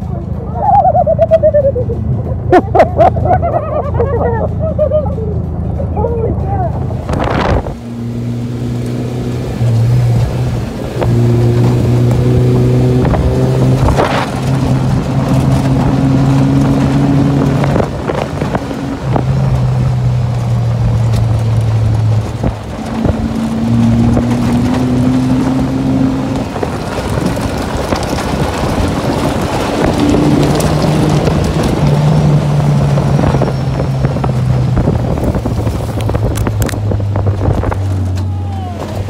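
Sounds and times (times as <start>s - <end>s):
motor engine humming: 0.0s - 39.0s.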